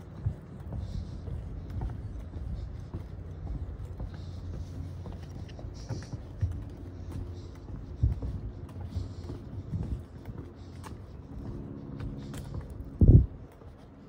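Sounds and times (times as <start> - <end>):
footsteps crunching on a path: 0.0 - 14.0
low rumble: 0.0 - 14.0.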